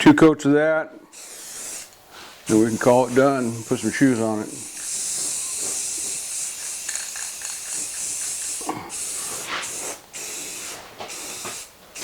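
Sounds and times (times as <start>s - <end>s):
spray coating hissing: 1.1s - 12.0s.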